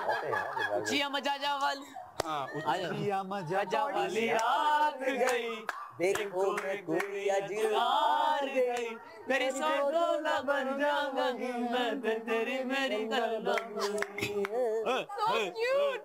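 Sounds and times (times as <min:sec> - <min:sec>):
unaccompanied singing voices: 0:02.2 - 0:16.0.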